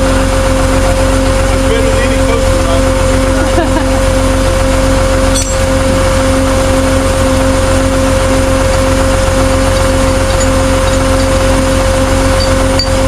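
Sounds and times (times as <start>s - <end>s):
pulsing low tone: 0.0s - 13.0s
vehicle engine hum: 0.0s - 13.0s.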